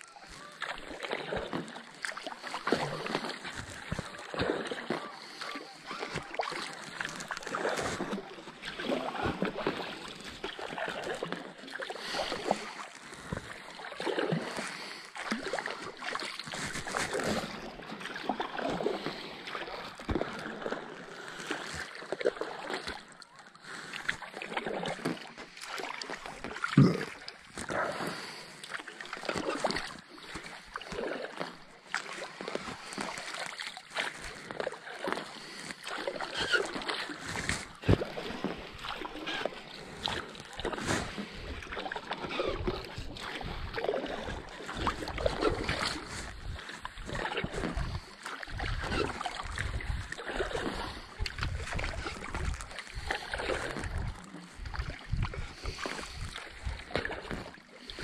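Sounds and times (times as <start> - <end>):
kayak paddle pulling through water: 0.0 - 58.0
water splashes and drips: 0.0 - 58.0.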